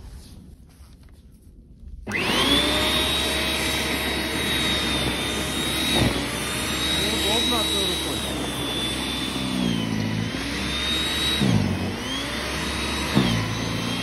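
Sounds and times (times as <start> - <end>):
snow thrower motor whining: 2.1 - 14.0.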